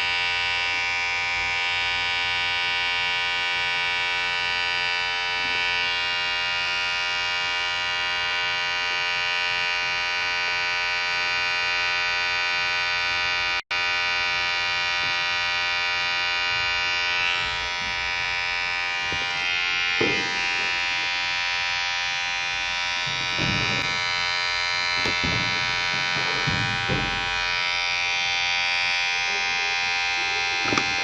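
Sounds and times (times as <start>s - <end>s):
electric hair clipper buzzing: 0.0s - 31.0s.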